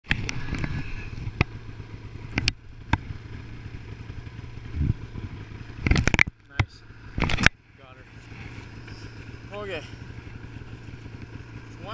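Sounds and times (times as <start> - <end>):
snowmobile engine running: 0.0 - 11.9.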